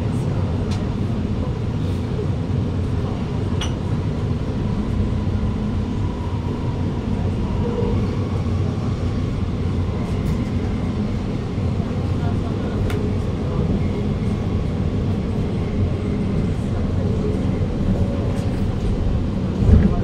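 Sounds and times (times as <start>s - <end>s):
metro train rumble with faint whine: 0.0s - 20.0s.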